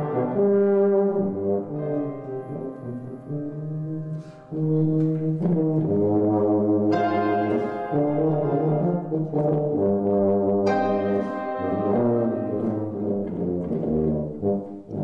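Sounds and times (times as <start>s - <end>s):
brass instruments playing chords: 0.0s - 15.0s.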